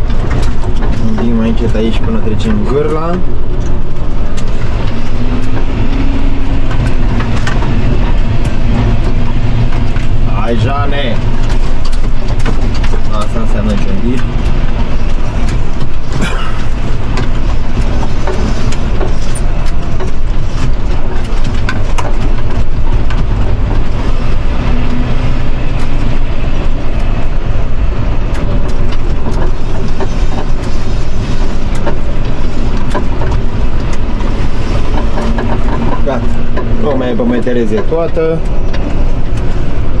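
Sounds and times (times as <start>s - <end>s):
rattles and knocks: 0.0s - 40.0s
tractor engine drone: 0.0s - 40.0s.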